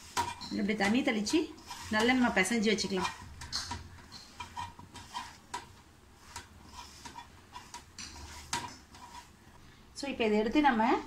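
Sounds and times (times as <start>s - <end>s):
hand squishing batter: 0.0s - 9.5s.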